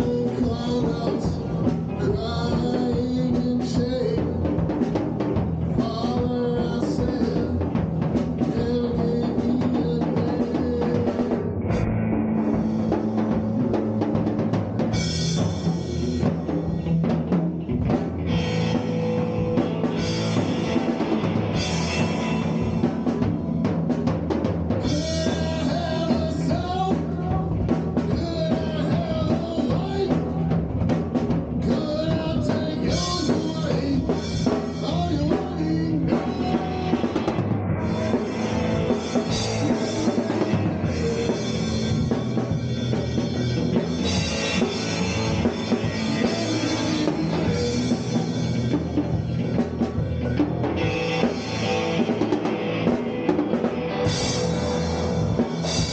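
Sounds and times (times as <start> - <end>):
bass guitar: 0.0 - 55.9
drum kit with cymbals: 0.0 - 55.9
electric guitar: 0.0 - 55.9.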